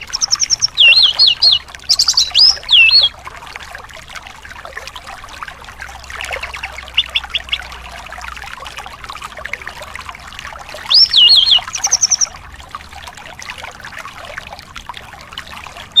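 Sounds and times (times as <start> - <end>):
trickle of running water: 0.0 - 16.0.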